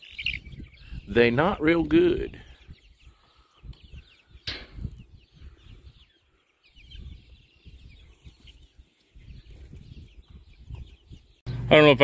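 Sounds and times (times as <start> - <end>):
chicks peeping and clucking: 0.0 - 12.0.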